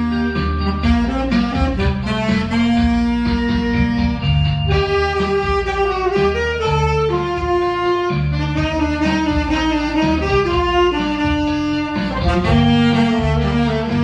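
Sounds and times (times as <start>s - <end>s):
backing track with bass line: 0.0s - 14.0s
saxophone slow melody: 0.0s - 14.0s.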